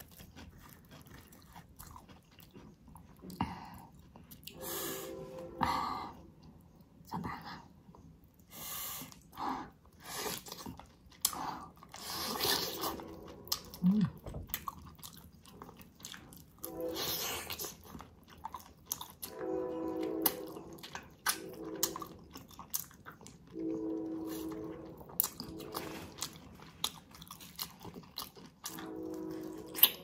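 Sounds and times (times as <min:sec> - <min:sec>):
wet chewing: 0:00.0 - 0:04.6, 0:09.1 - 0:16.8, 0:17.4 - 0:19.4, 0:20.0 - 0:30.0.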